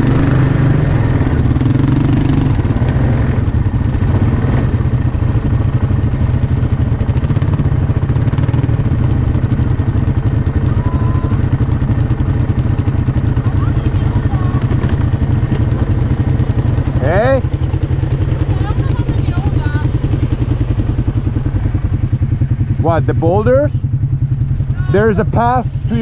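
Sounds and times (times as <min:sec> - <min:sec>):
quad engine running at low revs: 0:00.0 - 0:26.0.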